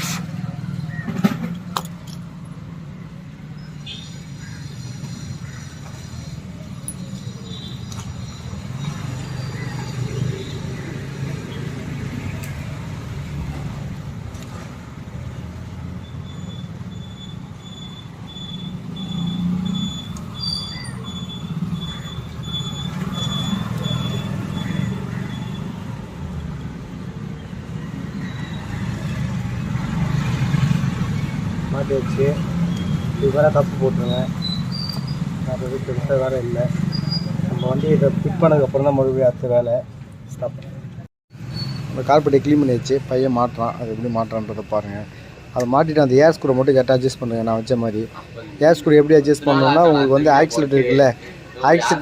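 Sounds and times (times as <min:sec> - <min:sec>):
road traffic noise: 0:00.0 - 0:52.0.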